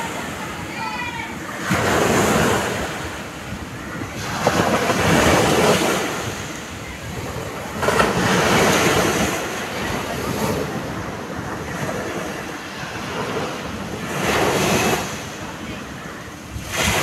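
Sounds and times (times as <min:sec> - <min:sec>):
waves breaking on a beach: 0:00.0 - 0:17.0.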